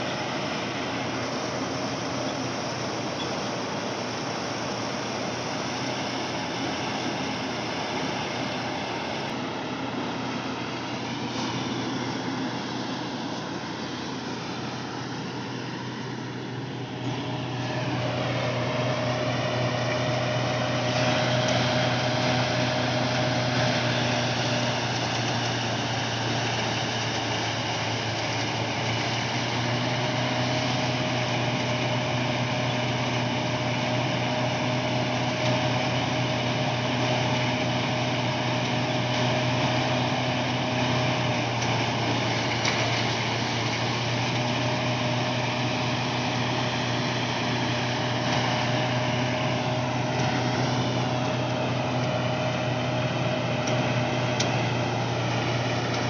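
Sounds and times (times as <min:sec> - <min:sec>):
paddy thresher running: 0:00.0 - 0:56.0
tractor engine humming: 0:00.0 - 0:56.0.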